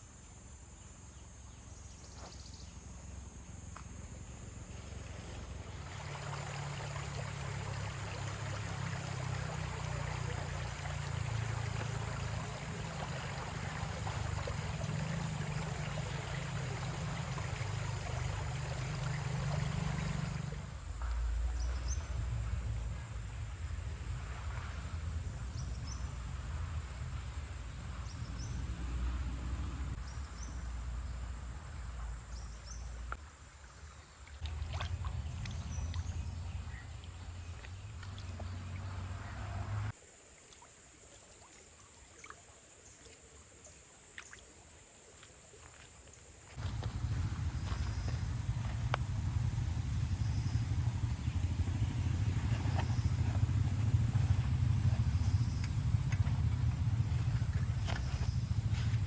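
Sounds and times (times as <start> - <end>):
high insect drone: 0.0 - 34.3, 45.9 - 59.0
running water: 4.6 - 28.6, 32.3 - 59.0.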